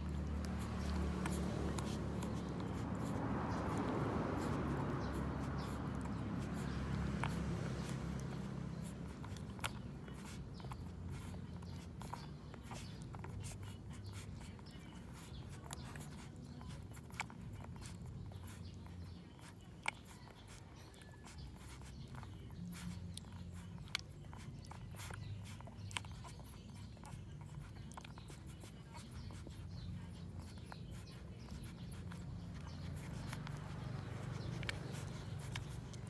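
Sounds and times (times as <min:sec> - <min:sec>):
low background rumble: 0:00.0 - 0:36.0
puppies suckling clicks: 0:00.0 - 0:36.0.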